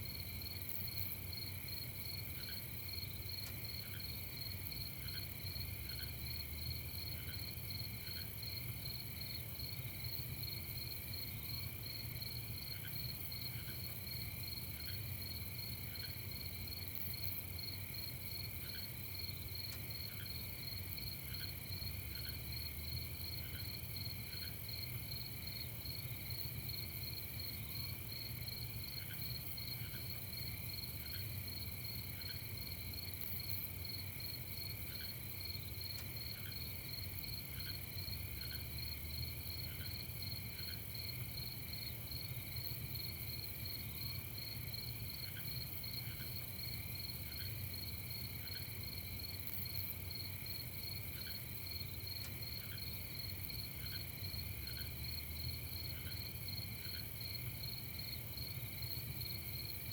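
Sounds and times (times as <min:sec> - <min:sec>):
crickets trilling: 0:00.2 - 0:59.9.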